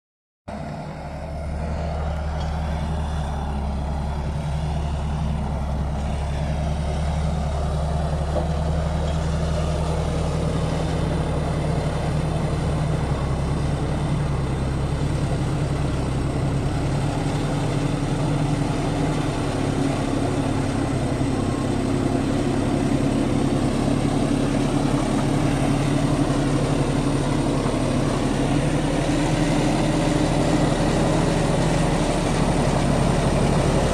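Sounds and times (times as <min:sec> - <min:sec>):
bulldozer diesel engine running: 0:00.5 - 0:33.9.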